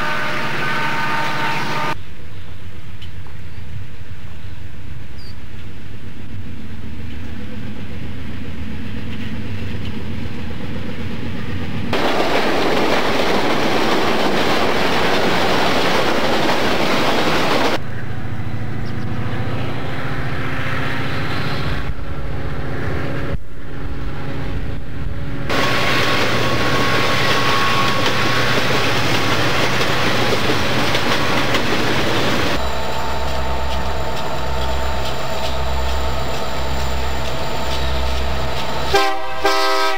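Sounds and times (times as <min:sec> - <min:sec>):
train wheels on rails: 0:01.8 - 0:39.9
locomotive engine noise: 0:04.6 - 0:39.9.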